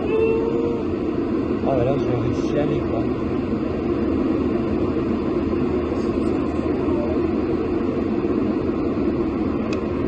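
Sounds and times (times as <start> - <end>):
airliner cabin engine noise: 0.0 - 10.0.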